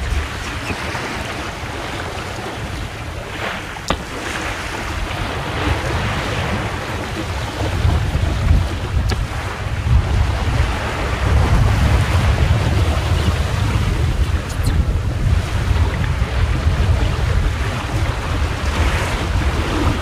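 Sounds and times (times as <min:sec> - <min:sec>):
water slapping along hull: 0:00.0 - 0:20.0
wind buffeting microphone: 0:00.0 - 0:20.0.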